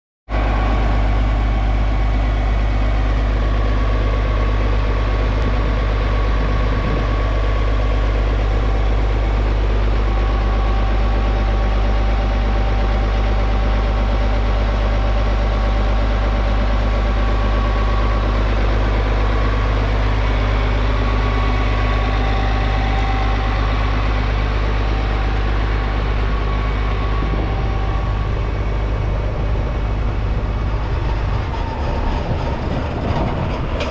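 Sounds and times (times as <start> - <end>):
tractor diesel engine idling: 0.3 - 33.9
faint steady whine: 0.4 - 32.4.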